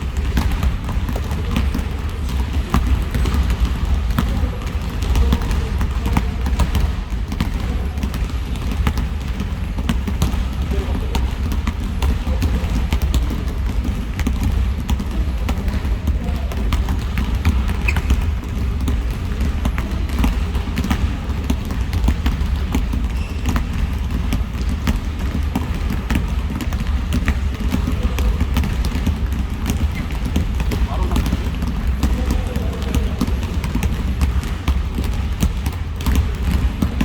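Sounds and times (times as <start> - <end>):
basketballs bouncing on floor: 0.0 - 37.0.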